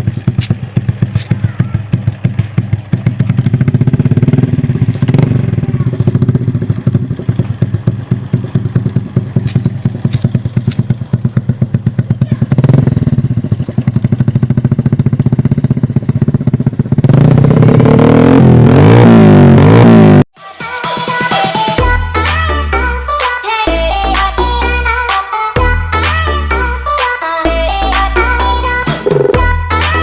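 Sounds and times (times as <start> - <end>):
motorcycle engine idling and revving: 0.0 - 20.3, 21.8 - 30.0.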